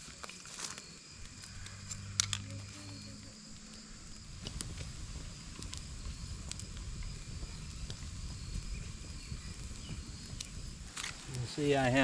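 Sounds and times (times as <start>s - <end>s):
campfire flames rushing: 0.0s - 12.0s
fire crackling and popping: 0.0s - 12.0s.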